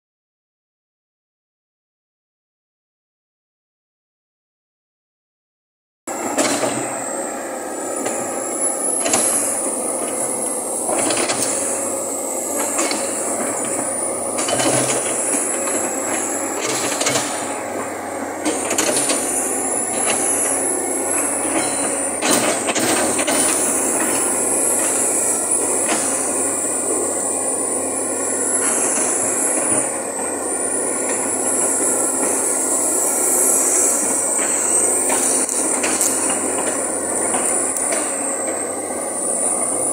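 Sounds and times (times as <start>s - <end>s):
diesel excavator engine under load: 6.1s - 39.9s
hydraulic whine: 6.1s - 39.9s
steel tracks moving: 6.1s - 39.9s.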